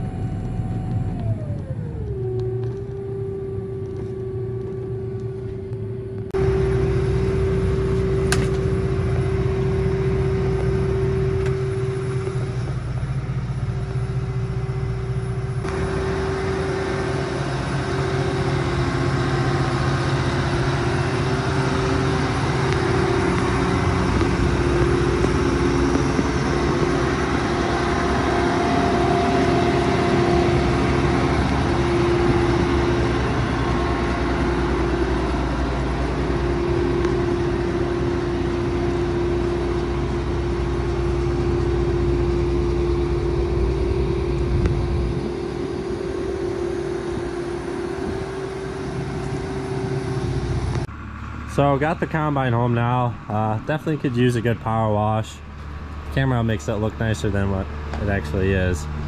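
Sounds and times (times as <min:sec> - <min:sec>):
combine diesel engine droning: 0:00.0 - 0:59.0.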